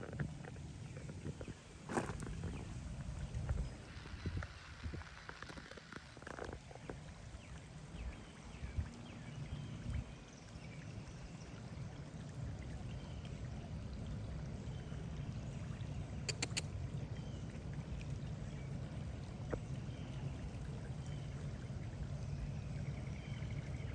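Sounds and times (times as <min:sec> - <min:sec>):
flowing water rush: 0:00.0 - 0:23.9.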